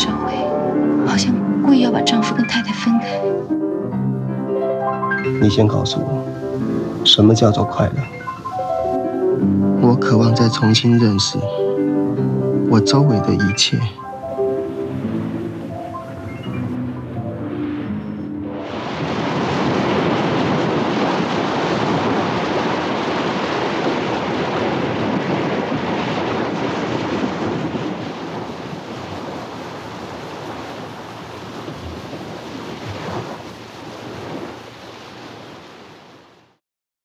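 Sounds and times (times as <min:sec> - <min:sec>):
sea surf washing: 0:00.0 - 0:36.6.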